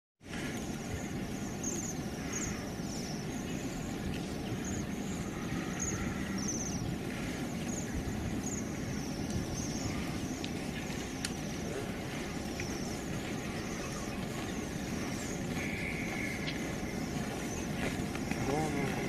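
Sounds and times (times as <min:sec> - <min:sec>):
steady low rumble: 0:00.3 - 0:19.0
high trilled bird calls: 0:00.6 - 0:19.0.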